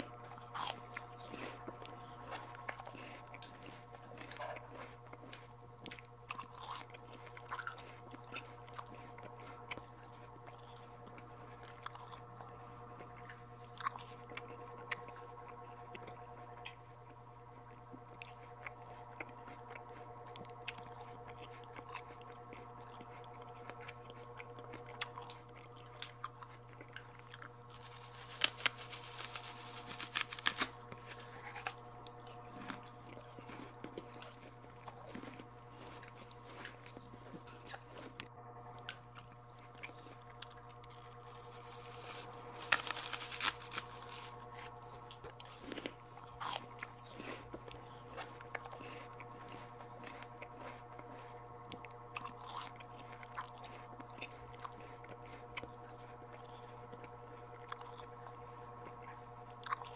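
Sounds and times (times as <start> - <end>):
chewing with wet mouth clicks: 0.0 - 28.4, 30.6 - 59.9
steady low hum: 0.0 - 59.9.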